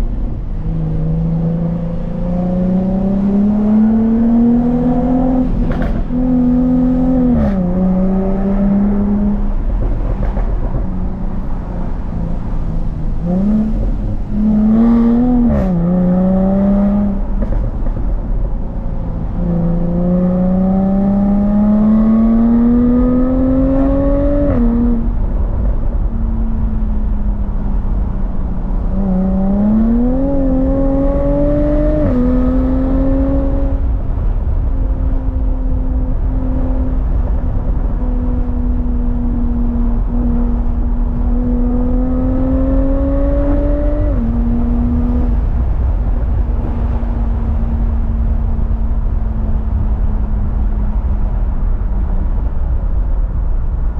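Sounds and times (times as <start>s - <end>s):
car engine revving: 0.0s - 52.6s.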